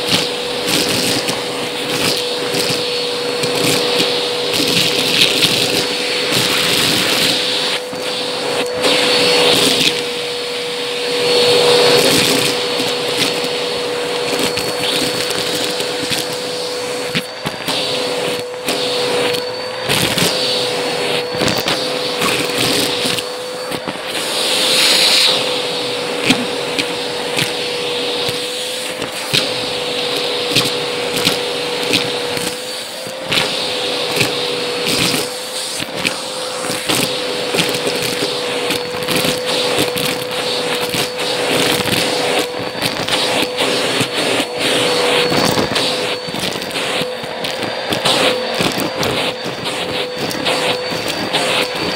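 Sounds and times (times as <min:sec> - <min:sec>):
beans clattering up vacuum nozzle: 0:00.0 - 0:51.9
vacuum cleaner running: 0:00.0 - 0:51.9.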